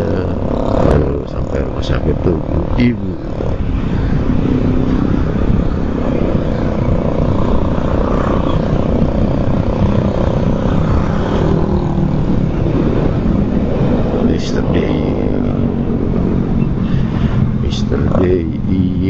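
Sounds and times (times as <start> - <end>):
motorcycle engine cruising: 0.0 - 19.0
wind rush on microphone: 0.0 - 19.0.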